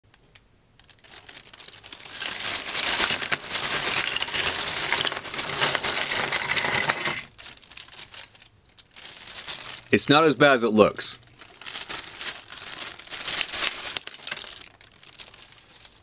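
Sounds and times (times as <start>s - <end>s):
plastic parts clattering: 0.8s - 9.8s, 11.4s - 16.0s
plastic bag crinkling: 0.8s - 10.0s, 11.2s - 16.0s.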